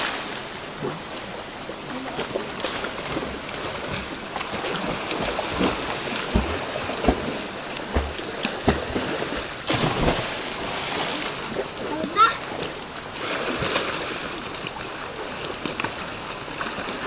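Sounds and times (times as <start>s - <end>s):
flowing water rushing: 0.0s - 17.0s
swimmers splashing: 0.0s - 17.0s.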